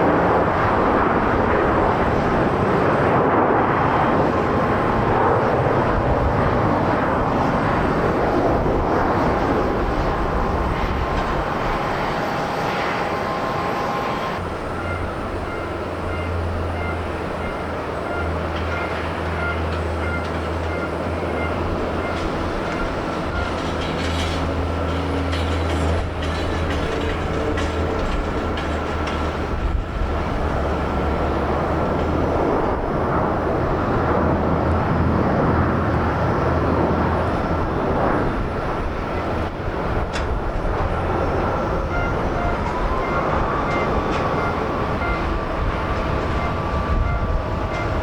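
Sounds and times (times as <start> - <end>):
high engine whine: 0.0 - 48.0
jet airliner engine noise: 0.0 - 48.0.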